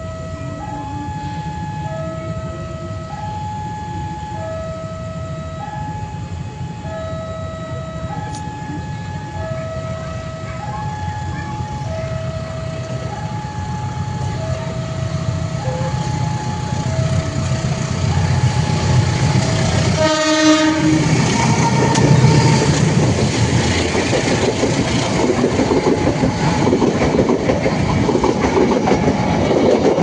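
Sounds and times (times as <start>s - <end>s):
diesel train engine rumble: 0.0s - 30.0s
two-tone railway warning alarm: 0.0s - 30.0s.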